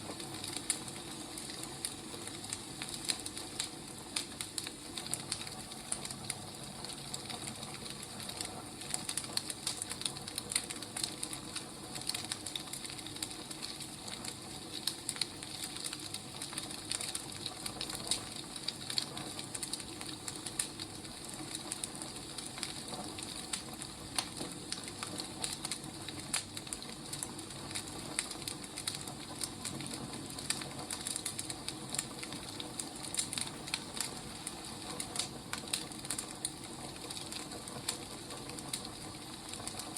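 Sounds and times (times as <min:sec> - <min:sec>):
fire hissing: 0:00.0 - 0:39.9
fire pops and snaps: 0:00.0 - 0:39.9.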